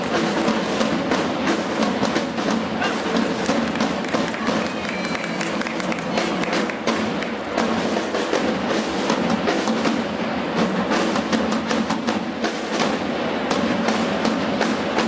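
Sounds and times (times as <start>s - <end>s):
parade drums march rhythm: 0.0s - 15.0s.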